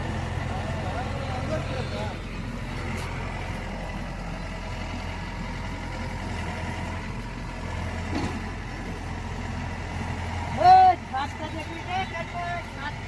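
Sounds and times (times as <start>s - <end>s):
combine harvester engine humming: 0.0s - 13.0s.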